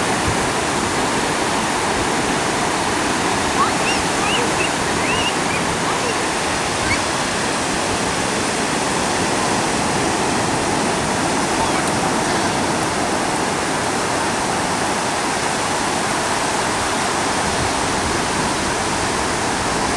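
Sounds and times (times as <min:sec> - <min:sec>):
ocean surf breaking: 0:00.0 - 0:19.9.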